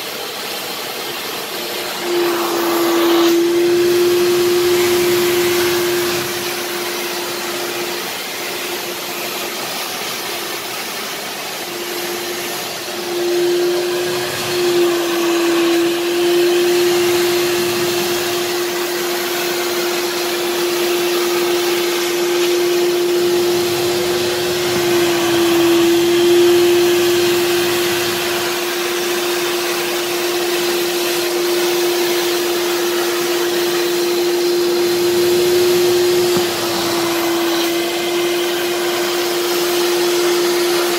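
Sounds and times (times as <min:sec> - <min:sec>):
nozzle hiss over carpet: 0:00.0 - 0:40.9
spray extractor suction motor whine: 0:00.0 - 0:40.9.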